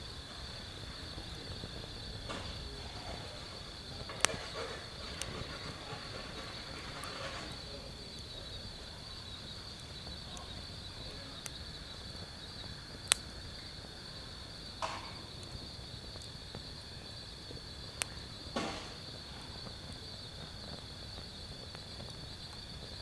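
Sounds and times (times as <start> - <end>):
night insects chirring: 0.0 - 23.0
wood fire popping and cracking: 0.0 - 23.0.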